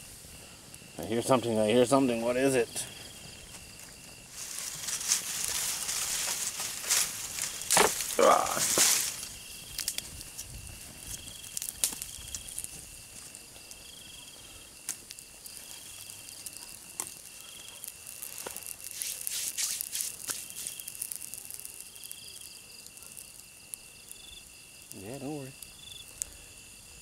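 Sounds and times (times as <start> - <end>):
campfire crackling: 0.0 - 27.0
insect chirps: 0.0 - 27.0
insects trilling: 0.0 - 27.0.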